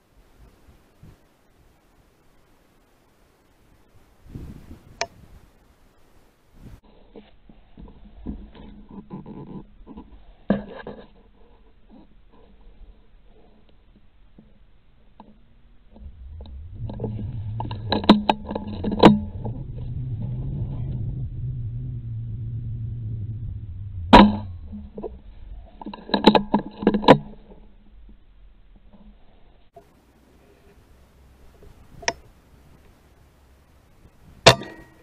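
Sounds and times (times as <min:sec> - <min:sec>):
low rumble of handling: 0:03.4 - 0:35.0.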